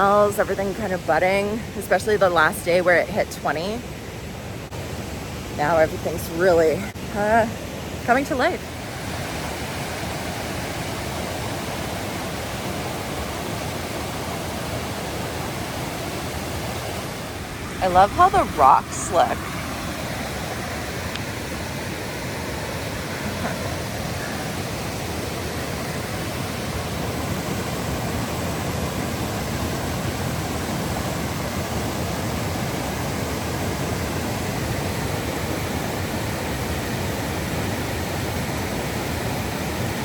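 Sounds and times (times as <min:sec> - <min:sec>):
waterfall rushing: 0:06.9 - 0:40.0.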